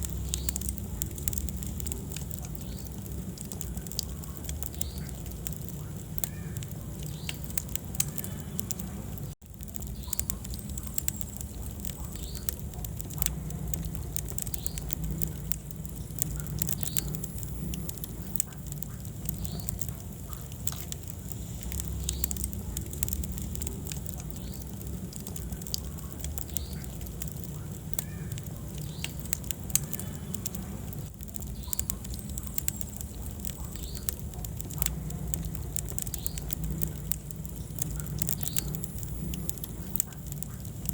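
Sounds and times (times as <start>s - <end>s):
low rumble of flames: 0.0s - 40.9s
wood fire snaps and pops: 0.0s - 40.9s.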